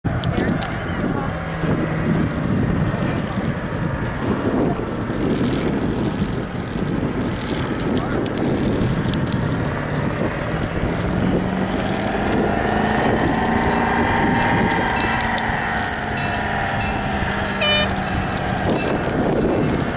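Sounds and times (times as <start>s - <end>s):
off-road vehicle engine running: 0.0s - 19.9s
wind buffeting microphone: 0.0s - 19.9s.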